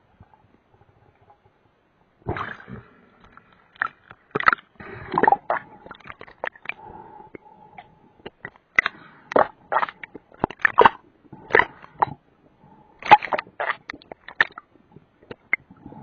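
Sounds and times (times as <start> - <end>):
water sloshing and gurgling: 0.0 - 16.0.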